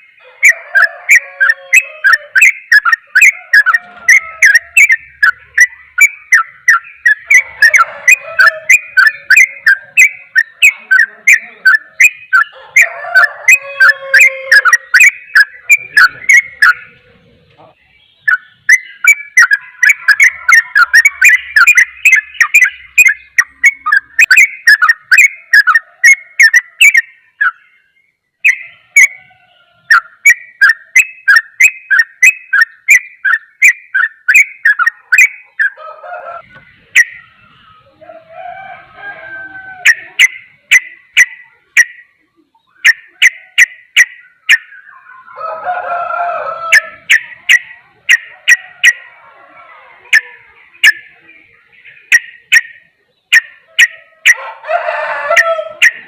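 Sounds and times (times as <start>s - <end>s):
bulbul singing fast chatter: 0.0s - 56.0s.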